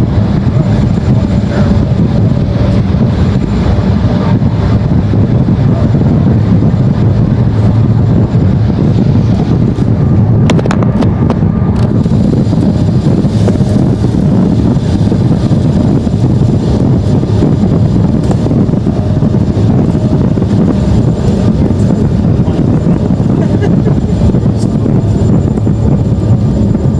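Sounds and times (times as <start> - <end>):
jet engines roaring in cabin: 0.0 - 26.9.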